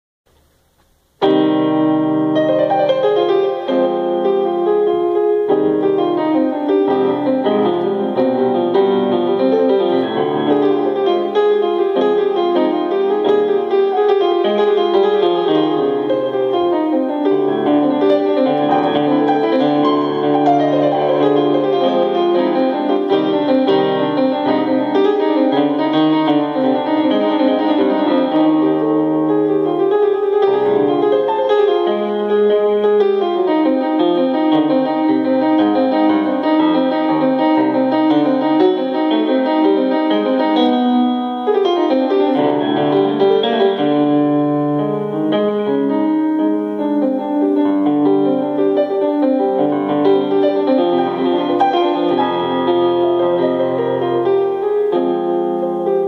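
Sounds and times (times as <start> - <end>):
piano keyboard improvising: 0.3 - 56.0.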